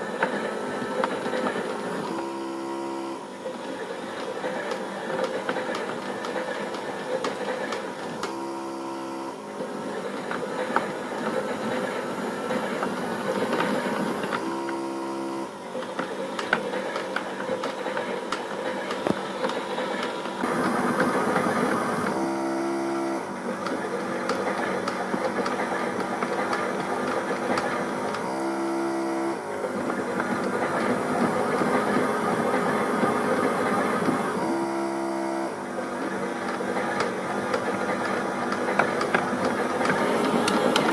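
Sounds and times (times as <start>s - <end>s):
toy washing machine whirring: 0.0s - 40.9s.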